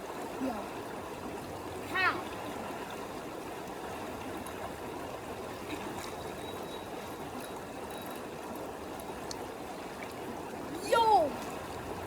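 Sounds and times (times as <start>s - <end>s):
creek water trickling: 0.0s - 12.0s.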